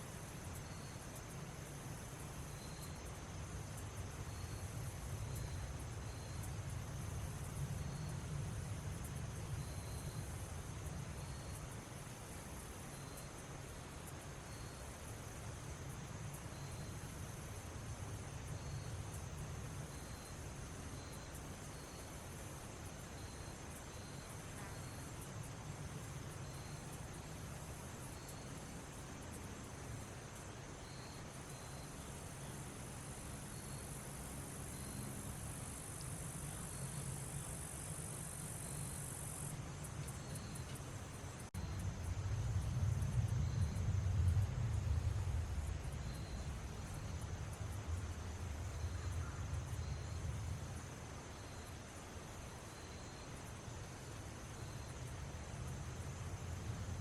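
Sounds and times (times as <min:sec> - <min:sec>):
high insect buzz: 0:00.0 - 0:41.9, 0:45.6 - 0:57.0
crickets chirping: 0:00.0 - 0:57.0
high insect trill: 0:00.0 - 0:57.0.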